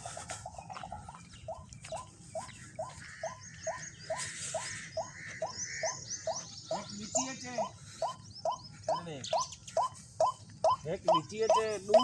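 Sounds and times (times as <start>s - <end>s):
high bird chirps: 0.6s - 12.0s.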